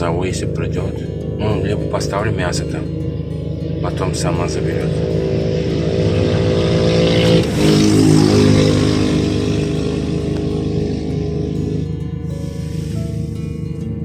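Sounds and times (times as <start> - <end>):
car engine driving: 0.0 - 14.0.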